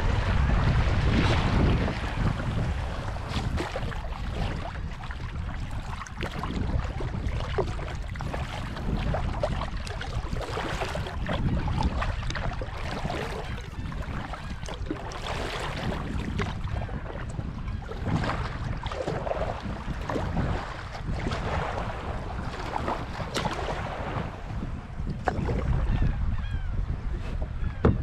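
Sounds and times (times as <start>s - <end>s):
paddle splashing in water: 0.0s - 25.8s
wind on microphone: 0.0s - 28.0s.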